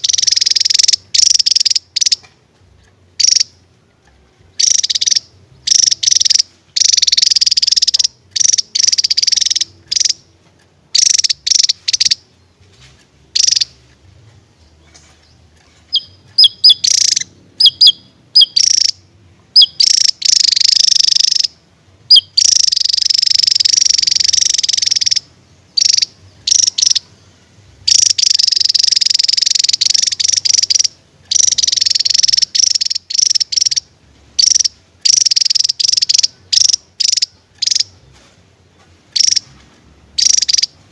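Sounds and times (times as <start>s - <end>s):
bird singing high trills: 0.0s - 2.3s, 4.5s - 10.2s, 10.9s - 12.6s, 13.4s - 13.9s, 14.6s - 38.0s.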